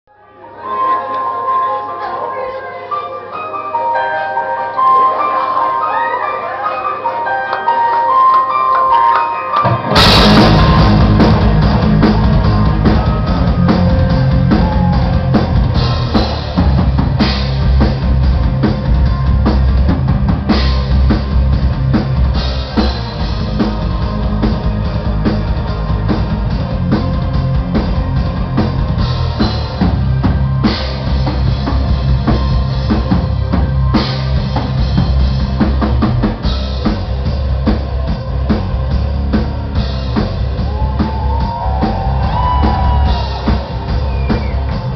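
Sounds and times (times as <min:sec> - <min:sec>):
live metal band playing: 0:03.3 - 0:44.9.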